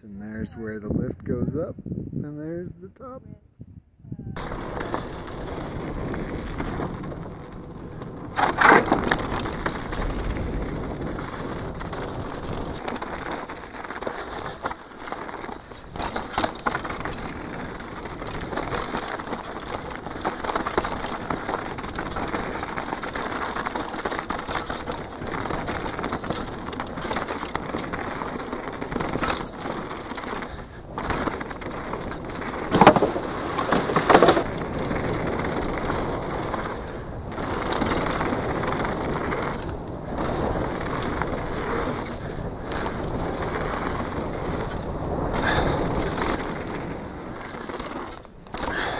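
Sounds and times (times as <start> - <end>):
bike tyre roar on dirt: 4.1 - 48.9
bike rattling: 4.2 - 48.9
bike knocking over bumps: 4.4 - 48.9.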